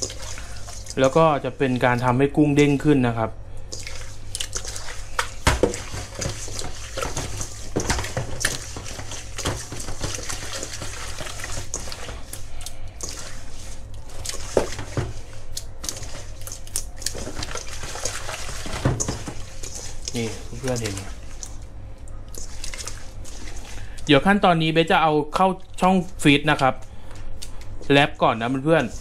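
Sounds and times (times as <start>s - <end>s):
wet squelching and sloshing: 0.0s - 2.9s, 3.6s - 24.5s, 26.8s - 29.0s.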